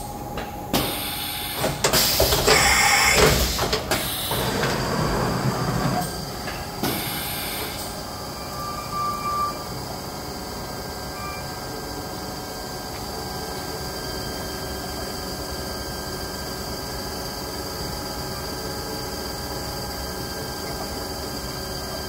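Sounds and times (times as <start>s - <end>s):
machining center running: 0.0s - 22.0s.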